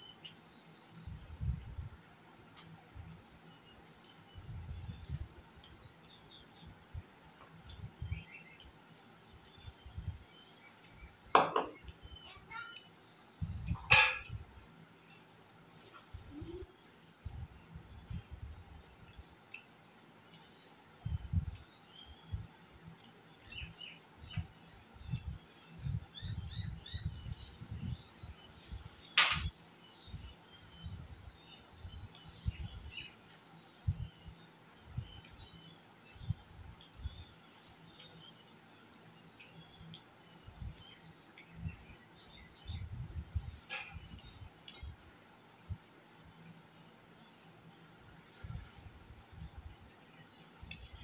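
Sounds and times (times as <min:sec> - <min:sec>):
faint bird chirps: 0:02.6 - 0:07.0, 0:07.6 - 0:14.4, 0:15.0 - 0:45.0, 0:45.6 - 0:51.0.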